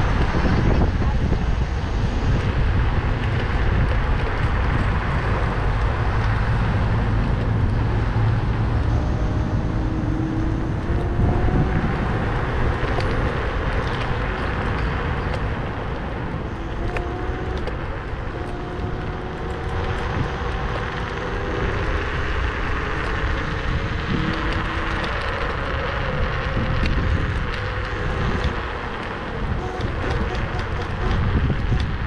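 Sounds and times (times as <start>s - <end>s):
faint whine: 0.0s - 32.0s
tyres rumbling on pavement: 0.0s - 32.0s
wind buffeting microphone: 0.0s - 32.0s.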